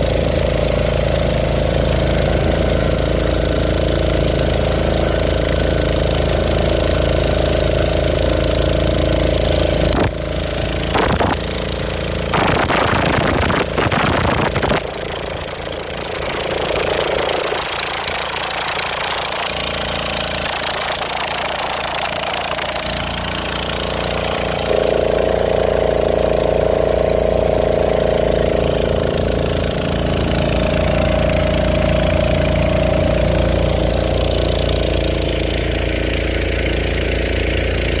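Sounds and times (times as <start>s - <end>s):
small boat motor running: 0.0s - 38.0s.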